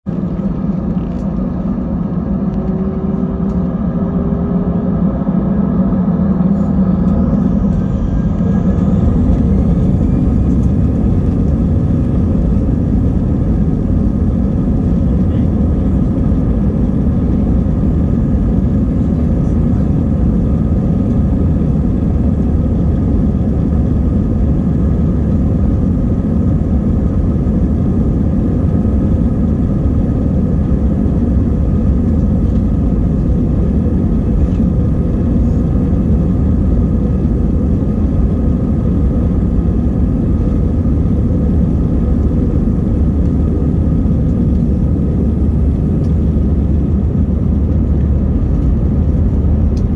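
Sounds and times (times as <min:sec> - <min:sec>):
jet engines rumbling: 0:00.0 - 0:49.9.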